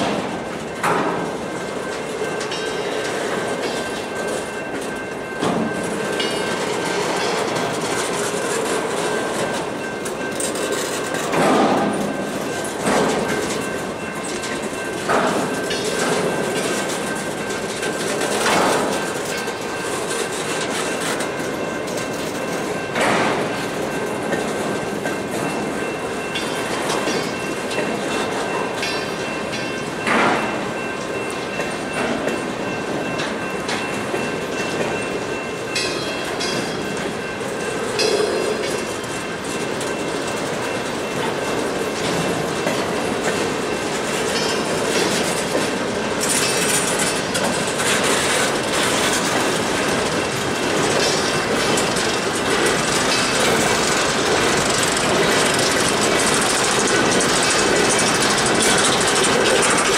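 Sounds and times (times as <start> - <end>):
train wheels rumbling on rail: 0.0 - 59.9
wheels clacking over rail joints: 0.0 - 59.9.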